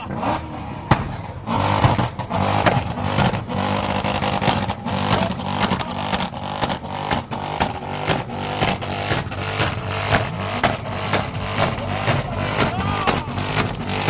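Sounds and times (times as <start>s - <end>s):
car engine revving: 0.0s - 14.0s
engine pops: 0.9s - 14.0s.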